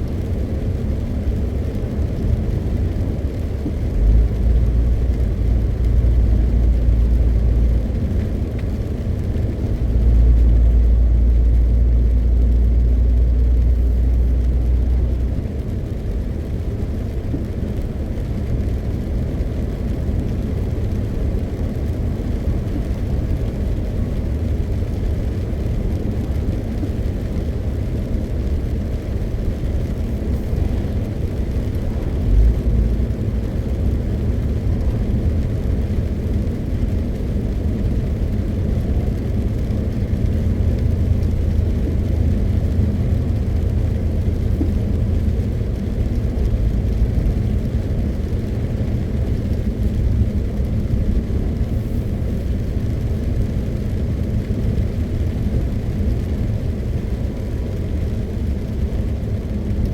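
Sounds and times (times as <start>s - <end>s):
truck engine rumbling: 0.0s - 57.7s
road noise: 0.0s - 59.9s.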